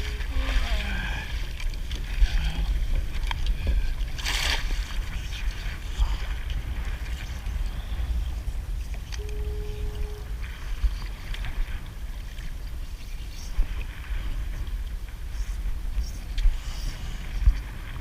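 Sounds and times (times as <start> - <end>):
water splashing around kayak: 0.0 - 18.0
wind rumble on microphone: 0.0 - 18.0.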